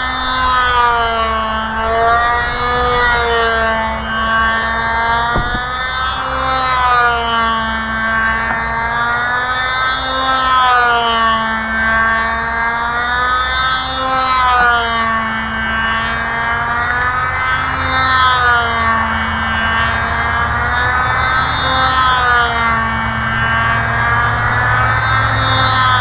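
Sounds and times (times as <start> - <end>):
model airplane engine running: 0.0 - 26.0.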